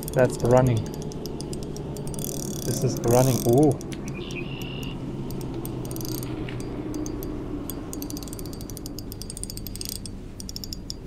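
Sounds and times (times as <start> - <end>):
fishing reel clicking: 0.0 - 11.0.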